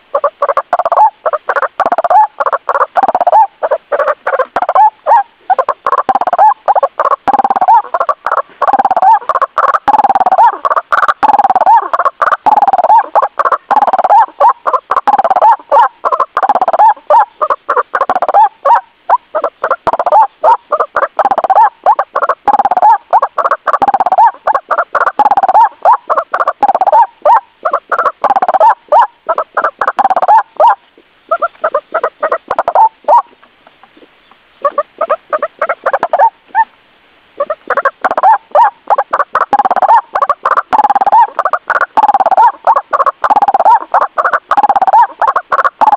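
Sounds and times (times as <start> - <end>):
waterhen calling: 0.0 - 45.9.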